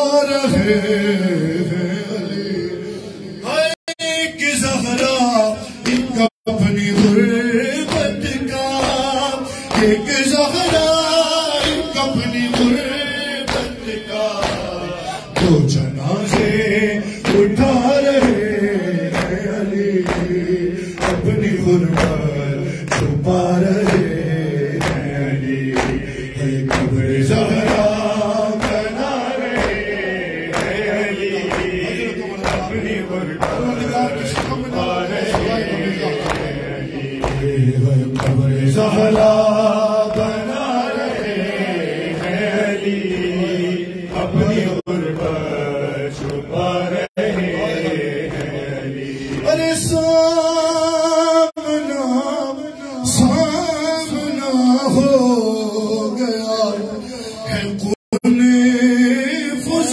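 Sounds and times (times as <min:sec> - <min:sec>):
men chanting a lament: 0:00.0 - 0:59.9
rhythmic chest-beating: 0:04.4 - 0:56.1.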